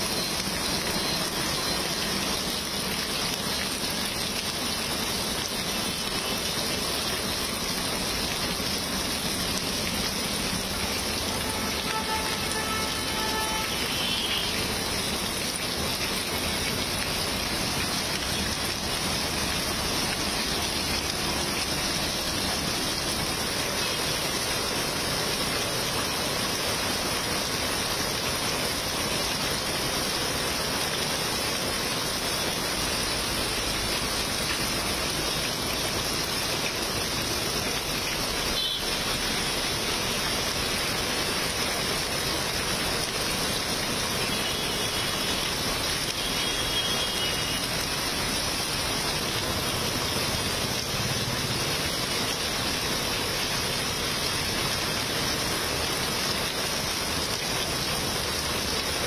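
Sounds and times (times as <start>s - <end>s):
heavy rain on paving: 0.0s - 59.0s.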